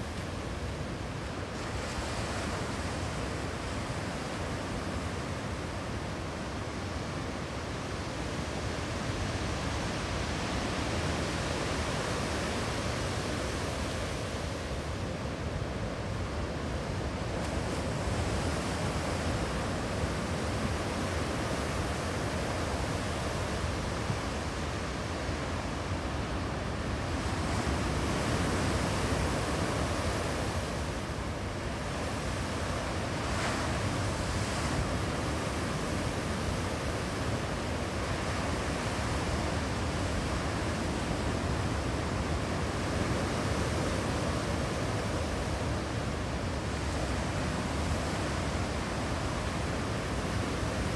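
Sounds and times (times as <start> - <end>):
waves breaking on a beach: 0.0 - 50.9.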